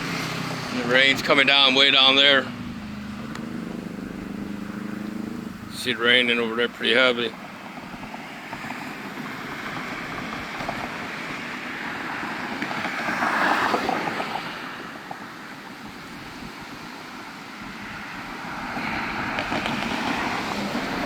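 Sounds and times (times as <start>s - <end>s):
rushing wind: 0.0s - 21.0s.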